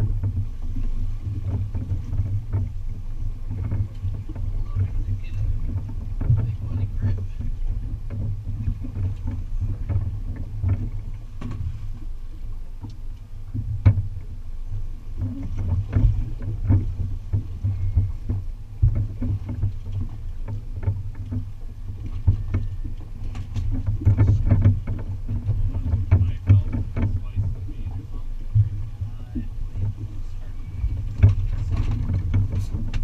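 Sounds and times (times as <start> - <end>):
boat engine rumble: 0.0 - 33.0.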